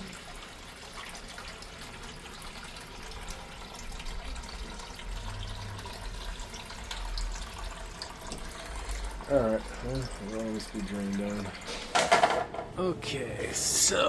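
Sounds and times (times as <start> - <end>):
drips and clicks: 0.0 - 14.0
water running and trickling: 0.0 - 14.0.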